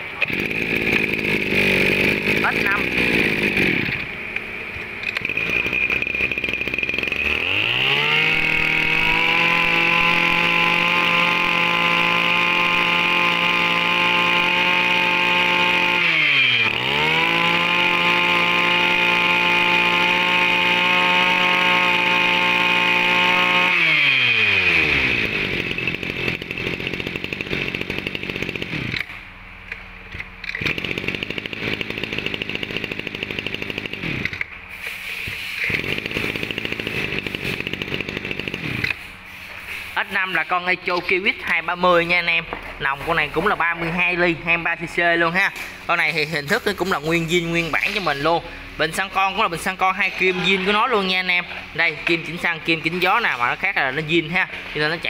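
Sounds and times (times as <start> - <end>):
brush cutter engine revving: 0.0 - 29.2, 30.4 - 34.9, 35.5 - 55.0.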